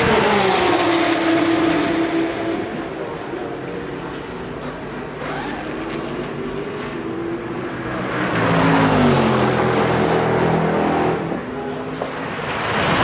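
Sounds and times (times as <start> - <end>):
race car engines passing by: 0.0 - 13.0.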